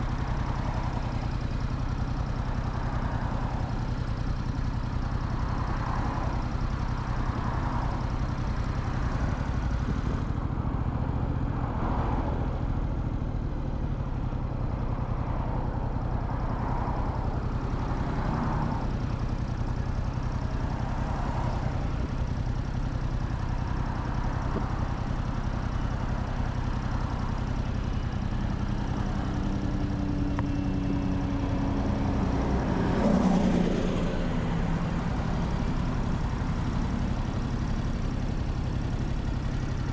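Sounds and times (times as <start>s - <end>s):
motorcycle engine rumbling: 0.0s - 39.9s
steadier engine tone: 0.0s - 39.9s.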